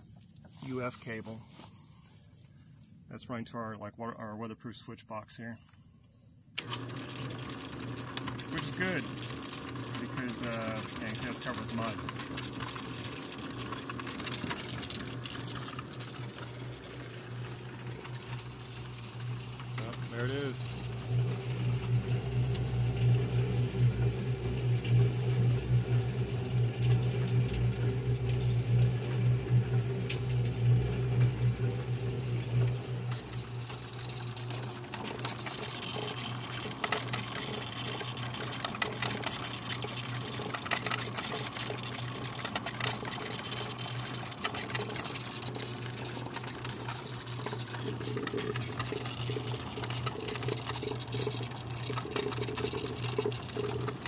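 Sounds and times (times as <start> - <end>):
electric motor hum: 5.7 - 54.0
rotating barrel clatter: 6.6 - 54.0.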